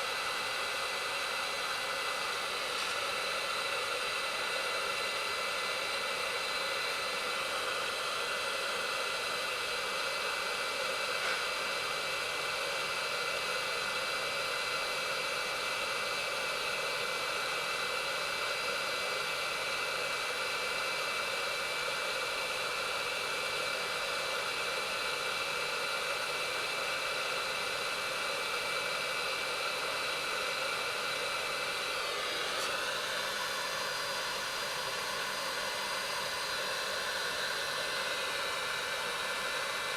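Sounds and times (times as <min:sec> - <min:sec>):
hot-air gun blowing: 0:00.0 - 0:39.9
thin fan whine: 0:00.0 - 0:39.9.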